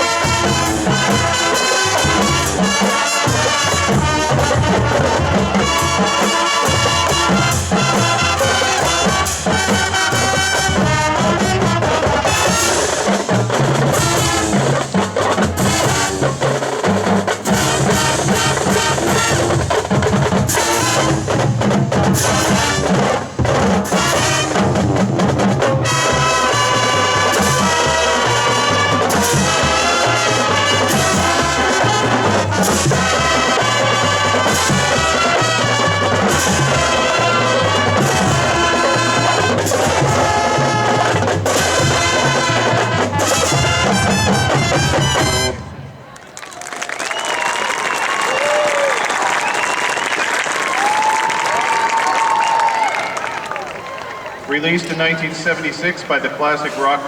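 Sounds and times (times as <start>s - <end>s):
drum line beat: 0.0s - 45.6s, 46.9s - 53.5s
trumpets and trombones: 0.0s - 46.2s.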